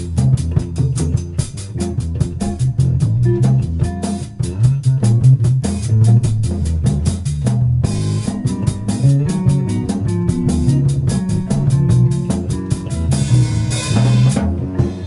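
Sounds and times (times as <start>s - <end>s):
drum kit: 0.0s - 15.0s
electric bass: 0.0s - 15.0s
electric guitar: 0.0s - 15.0s.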